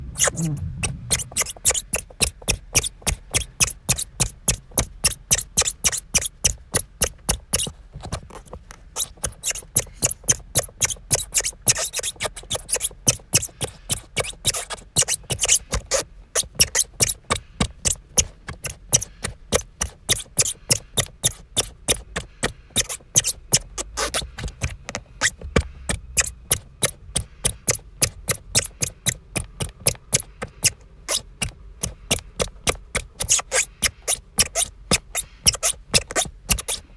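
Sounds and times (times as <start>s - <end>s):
rapid high-pitched squeaks: 0.0s - 36.9s.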